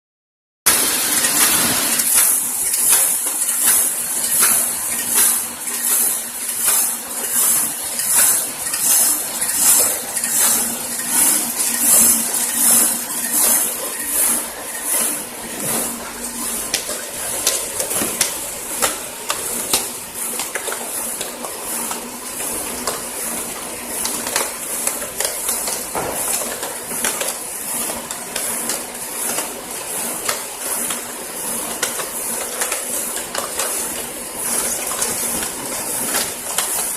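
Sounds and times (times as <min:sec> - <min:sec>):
machine clicks and clacks: 0:00.7 - 0:36.9.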